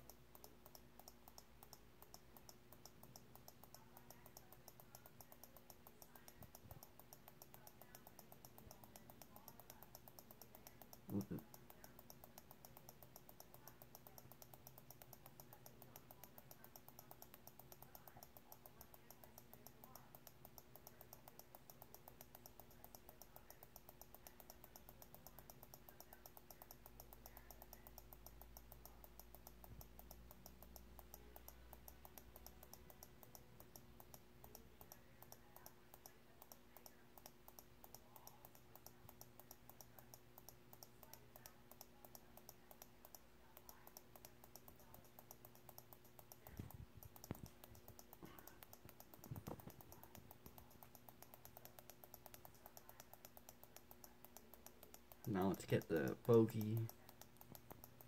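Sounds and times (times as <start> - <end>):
faint mouse clicking: 0.0 - 58.0
low steady hum: 0.0 - 58.0.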